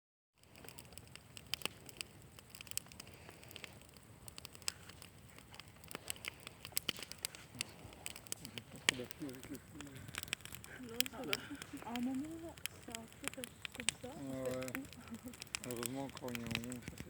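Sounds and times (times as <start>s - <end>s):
campfire crackling and popping: 0.4s - 17.0s
fire hissing: 0.4s - 17.0s.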